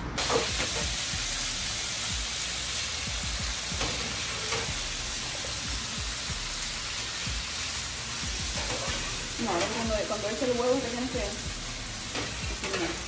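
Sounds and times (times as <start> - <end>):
food sizzling in a pan: 0.2 - 13.0.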